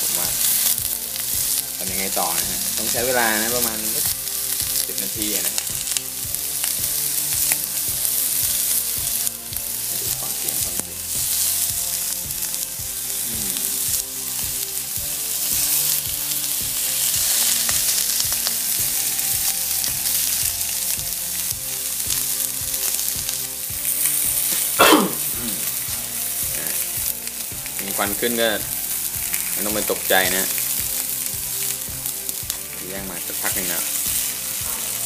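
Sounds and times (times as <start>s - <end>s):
fish sizzling in a grill pan: 0.0s - 35.0s
spitting oil crackles: 0.0s - 35.0s.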